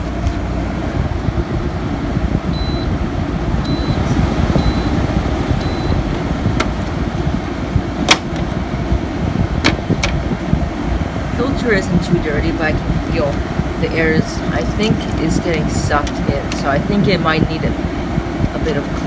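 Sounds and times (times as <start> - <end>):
air conditioner running: 0.0 - 19.0.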